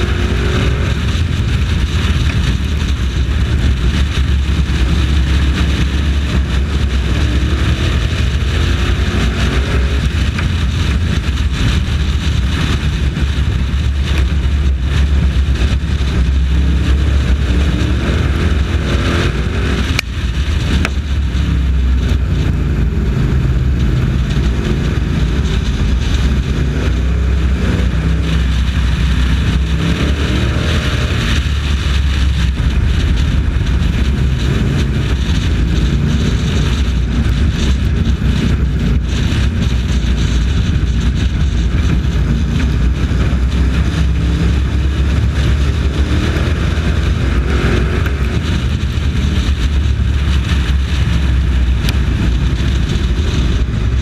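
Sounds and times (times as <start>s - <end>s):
race truck engine running hard: 0.0s - 54.0s.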